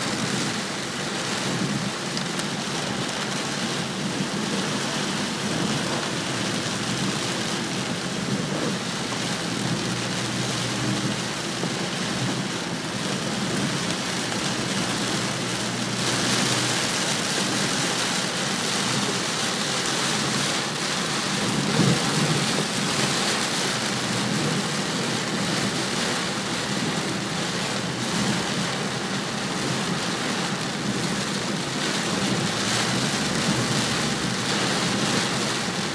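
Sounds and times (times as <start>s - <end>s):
heavy rain on car roof: 0.0s - 35.9s
tyres rumbling on wet road: 0.0s - 35.9s.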